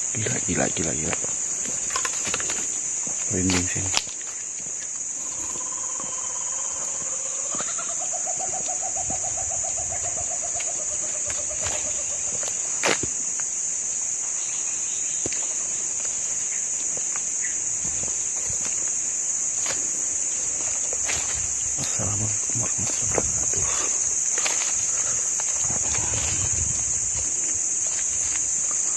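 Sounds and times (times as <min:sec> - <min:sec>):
high-pitched insect drone: 0:00.0 - 0:28.9.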